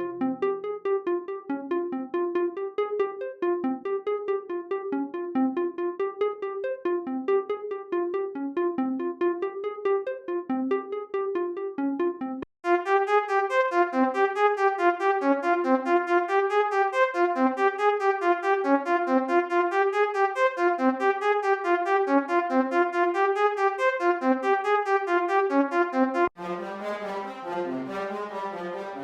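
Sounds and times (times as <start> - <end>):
synthesizer arpeggio: 0.0 - 29.0.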